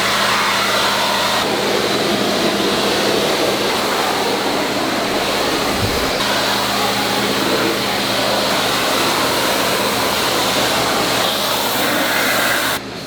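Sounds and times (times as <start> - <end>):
pressure washer spraying water: 0.0 - 12.8
pump motor hum: 0.0 - 12.8.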